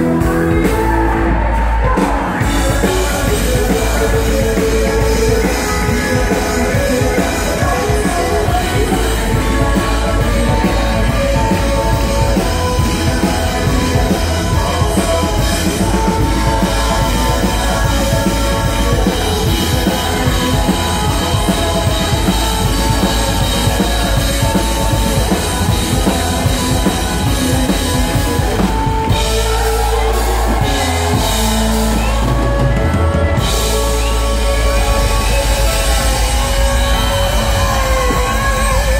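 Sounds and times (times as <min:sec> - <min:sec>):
live country-rock band: 0:00.0 - 0:38.9.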